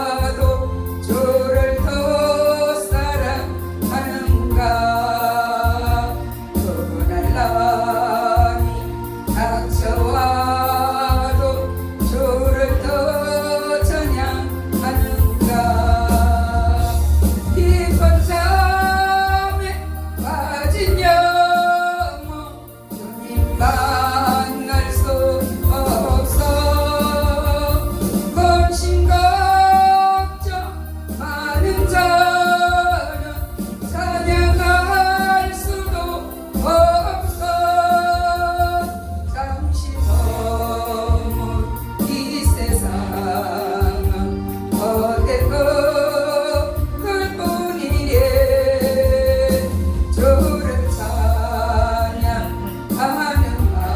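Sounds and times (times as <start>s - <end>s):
heavy bass accompaniment: 0.0s - 53.9s
person singing gospel song: 0.0s - 53.9s.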